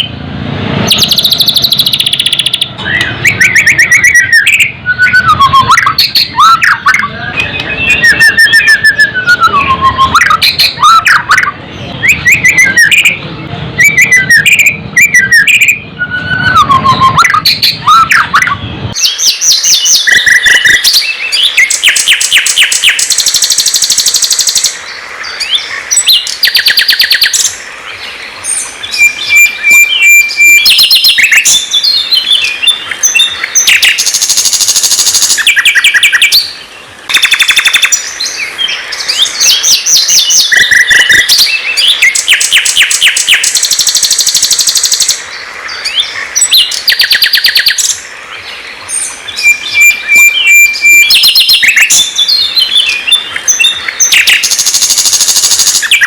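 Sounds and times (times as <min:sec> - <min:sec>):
fast high bird trills: 0:00.8 - 0:13.2, 0:13.8 - 0:27.7, 0:28.4 - 0:48.1, 0:48.9 - 0:56.0
songbird whistling song: 0:00.8 - 0:56.0.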